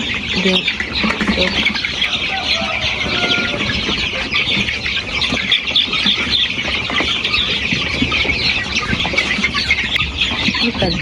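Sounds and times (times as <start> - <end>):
chicks peeping in chorus: 0.0 - 11.0.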